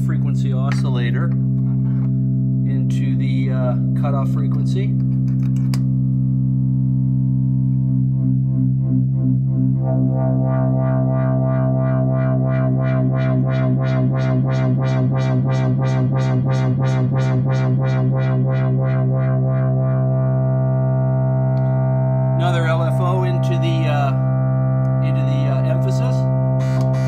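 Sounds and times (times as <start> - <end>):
modular synthesizer drone: 0.0 - 27.0.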